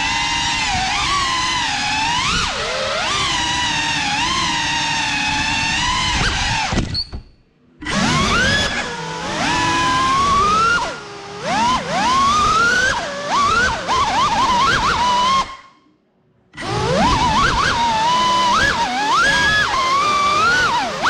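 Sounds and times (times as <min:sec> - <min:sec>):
drone motors whining: 0:00.0 - 0:15.8, 0:16.6 - 0:21.0.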